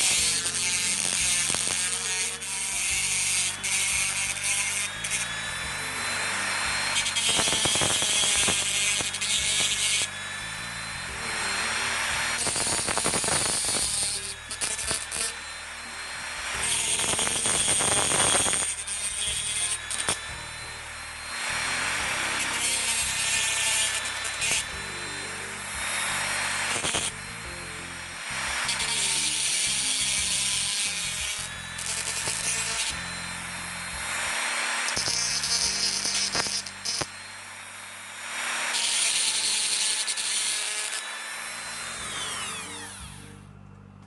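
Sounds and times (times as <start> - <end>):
background music: 0.0 - 37.0
small tool sawing thin plate: 0.0 - 37.3, 37.9 - 43.2.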